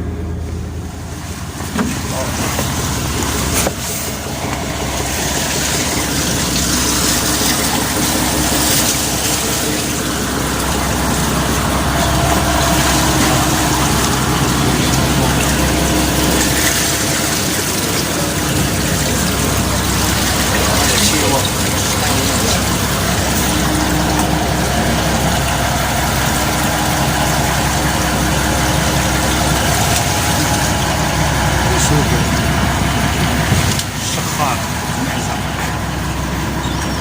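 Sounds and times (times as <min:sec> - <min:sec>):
boat engine running: 0:00.0 - 0:37.0
water noise: 0:00.0 - 0:37.0
wind: 0:00.0 - 0:37.0.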